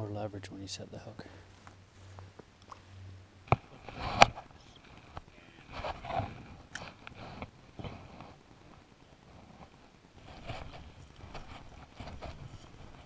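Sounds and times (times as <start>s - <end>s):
handling noise rustling: 1.5s - 13.0s.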